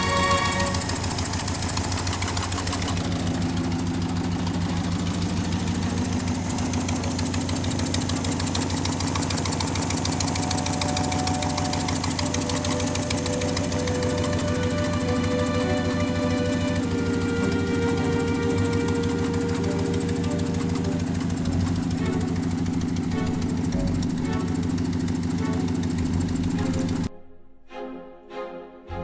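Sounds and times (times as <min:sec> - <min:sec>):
engine idling: 0:00.0 - 0:27.1
music: 0:00.0 - 0:29.0.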